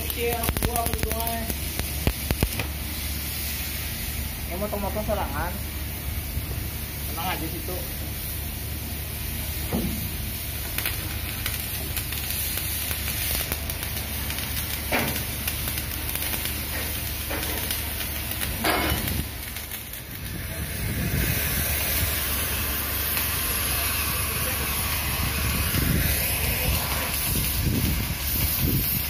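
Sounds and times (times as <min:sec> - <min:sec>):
sharp welding pops: 0:00.0 - 0:05.2, 0:09.4 - 0:29.0
electric arc welding sizzling: 0:00.0 - 0:29.0.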